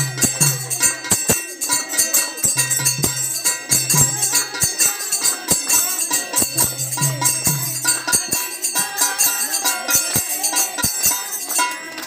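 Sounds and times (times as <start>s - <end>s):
jingling tambourine: 0.0s - 12.0s
sharp percussion strokes: 0.0s - 12.0s.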